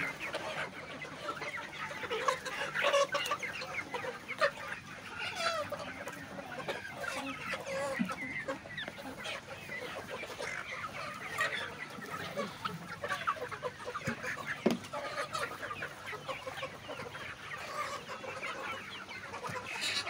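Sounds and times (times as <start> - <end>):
chickens clucking and chirping: 0.0 - 20.0.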